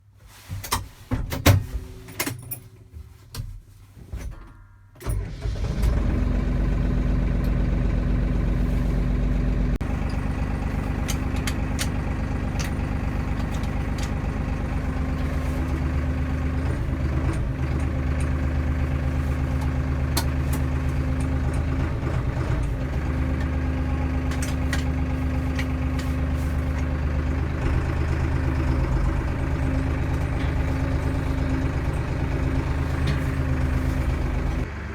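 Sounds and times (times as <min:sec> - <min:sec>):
engine idling: 0:05.2 - 0:34.9.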